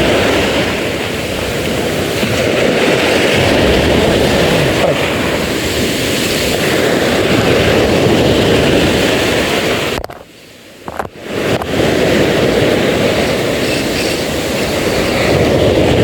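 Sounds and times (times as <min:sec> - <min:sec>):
wind and sea rushing: 0:00.0 - 0:16.0.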